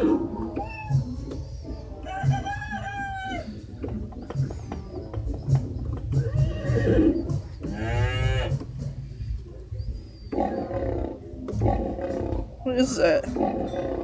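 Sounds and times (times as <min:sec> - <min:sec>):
synthesizer animal calls: 0:00.0 - 0:14.0.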